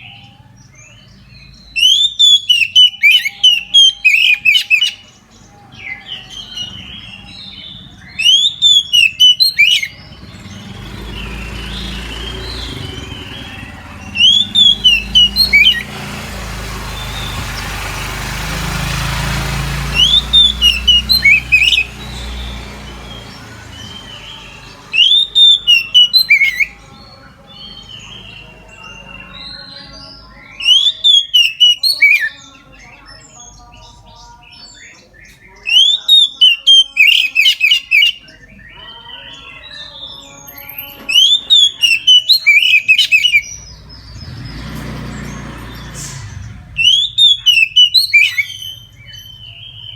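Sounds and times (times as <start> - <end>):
bird singing whistled notes: 0.0 - 49.9.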